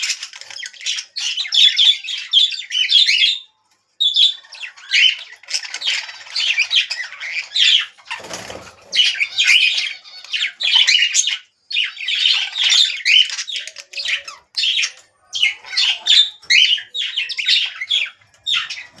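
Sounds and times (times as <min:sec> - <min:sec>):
parrots chirping and squawking: 0:00.0 - 0:19.0.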